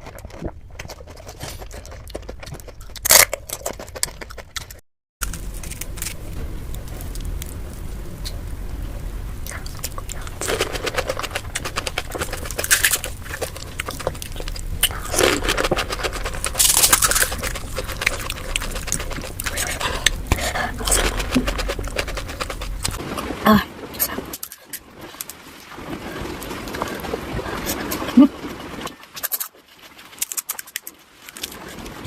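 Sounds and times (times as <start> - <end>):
crisp shells crunching and chewing: 0.0 - 7.6, 9.5 - 23.0, 26.1 - 32.0
low steady hum: 0.0 - 28.5.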